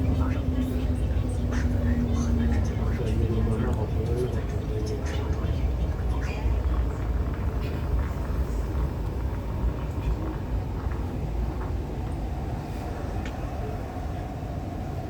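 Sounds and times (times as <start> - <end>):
thin steady whine: 0.0 - 15.0
train running low rumble: 0.0 - 15.0.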